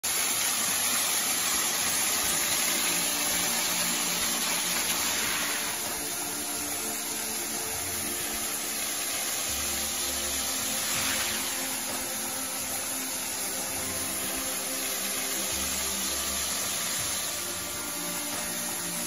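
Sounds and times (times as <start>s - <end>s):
waterfall rushing: 0.1s - 19.0s.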